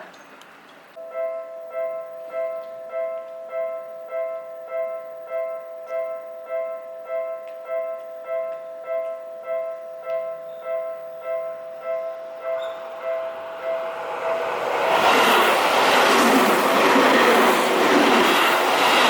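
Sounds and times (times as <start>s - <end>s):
level crossing alarm dinging: 1.0s - 19.0s.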